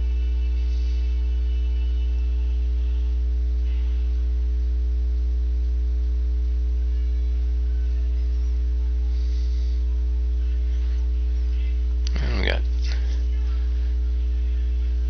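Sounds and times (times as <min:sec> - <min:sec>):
faint steady tones: 0:00.0 - 0:15.0
low mains hum: 0:00.0 - 0:15.0.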